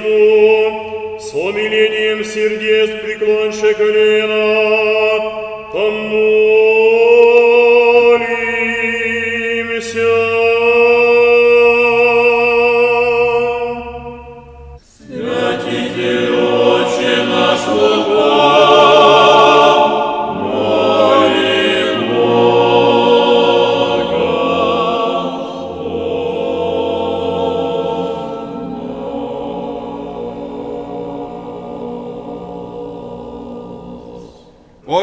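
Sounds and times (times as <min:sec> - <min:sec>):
choir chanting unaccompanied: 0:00.0 - 0:34.7.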